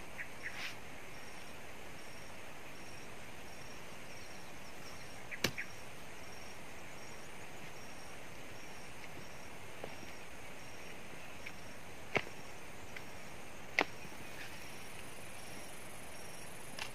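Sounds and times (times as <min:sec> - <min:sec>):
outdoor hiss: 0:00.0 - 0:16.9.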